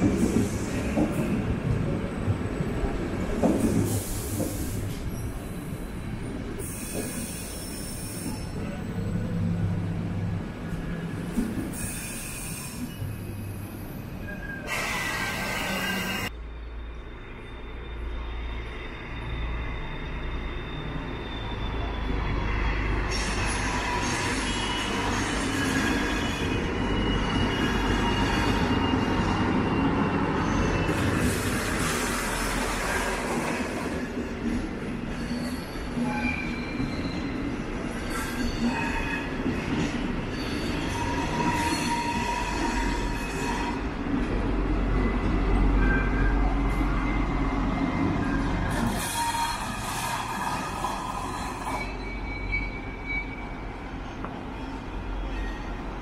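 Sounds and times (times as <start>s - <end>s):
train wheels rumbling on rails: 0.0s - 16.4s, 18.6s - 56.0s.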